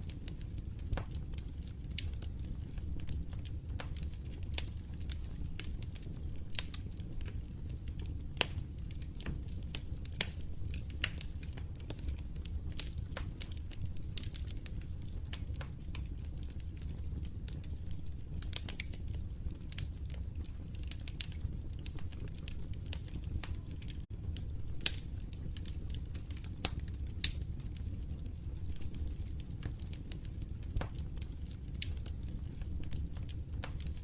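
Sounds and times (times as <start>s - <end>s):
fire pops and snaps: 0.0s - 34.0s
low rumble of burning: 0.0s - 34.0s
wood fire crackling: 0.0s - 34.0s.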